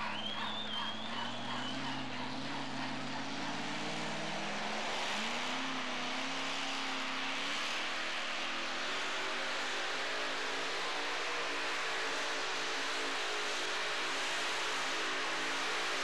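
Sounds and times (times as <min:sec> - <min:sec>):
supercharged truck engine revving: 0:00.0 - 0:16.0.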